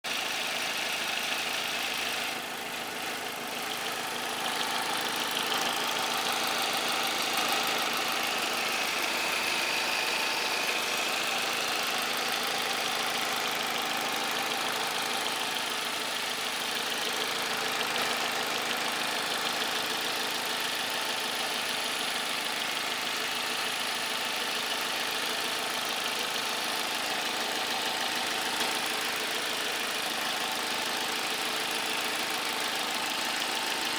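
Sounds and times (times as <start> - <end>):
car engine running: 0.1 - 33.9
engine ticking: 0.1 - 33.9.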